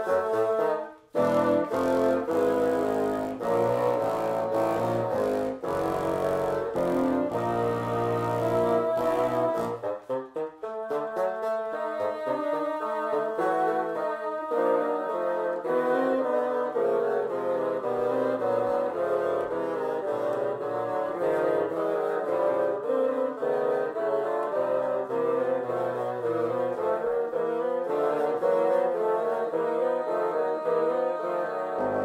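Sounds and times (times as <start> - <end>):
concert band woodwinds playing: 0.0 - 32.0.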